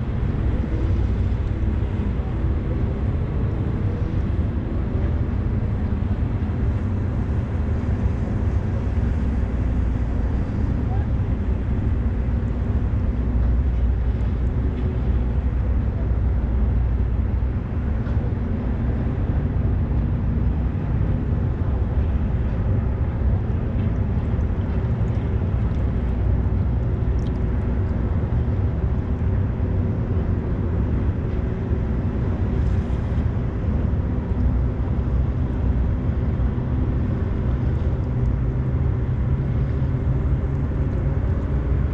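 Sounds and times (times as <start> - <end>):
ship diesel engines rumbling: 0.0 - 41.9
wind buffeting microphone: 0.0 - 41.9.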